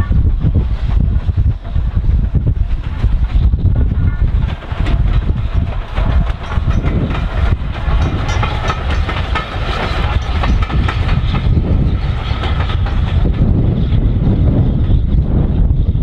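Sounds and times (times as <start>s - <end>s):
wind rumbling on microphone: 0.0s - 16.0s
wheels clicking over rail joints: 0.6s - 15.1s.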